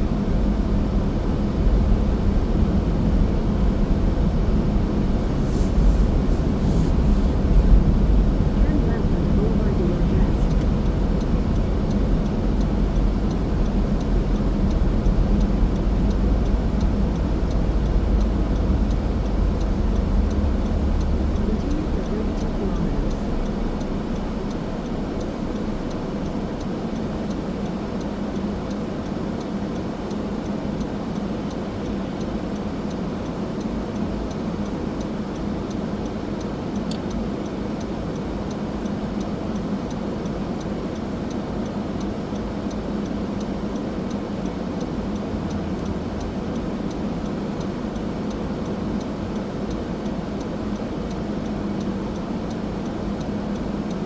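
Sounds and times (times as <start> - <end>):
car driving road noise: 0.0 - 35.8, 43.0 - 54.0.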